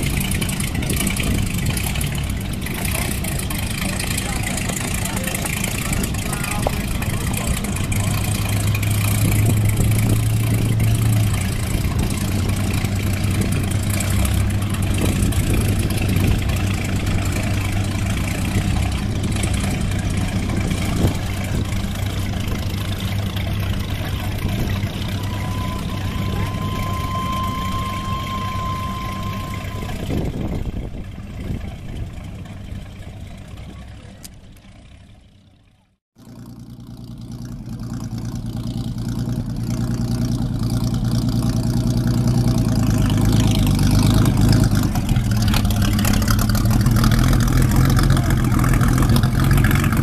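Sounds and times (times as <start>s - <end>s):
boat engine idling: 0.0s - 50.0s.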